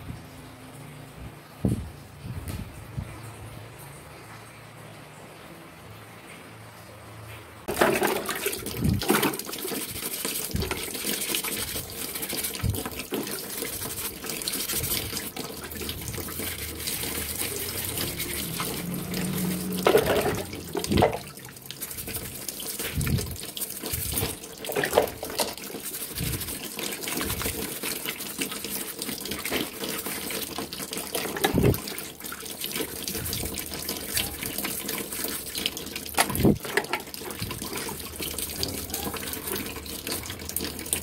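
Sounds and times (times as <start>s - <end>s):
water sloshing and splashing: 6.3s - 41.0s
brush scrubbing in water: 7.7s - 41.0s.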